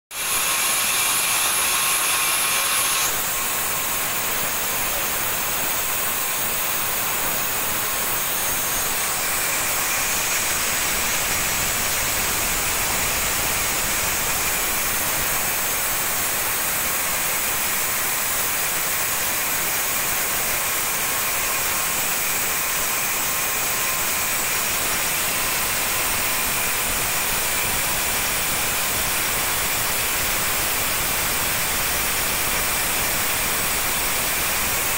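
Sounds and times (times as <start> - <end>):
bandsaw cutting wood: 0.1 - 34.9.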